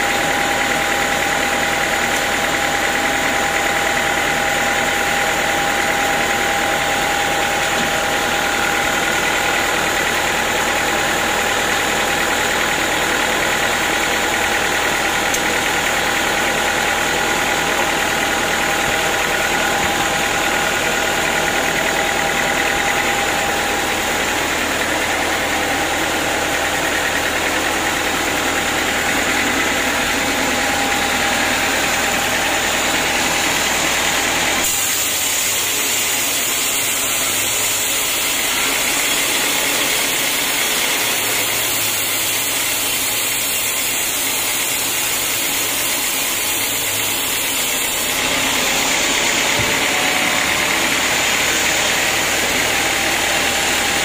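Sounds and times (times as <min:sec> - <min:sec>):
high steady whining tones: 0:00.0 - 0:54.0
sawmill machine drone: 0:00.0 - 0:54.0.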